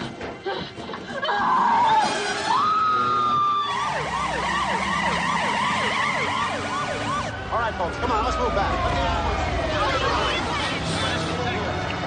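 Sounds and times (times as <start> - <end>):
emergency siren wailing and yelping: 1.2 - 11.1.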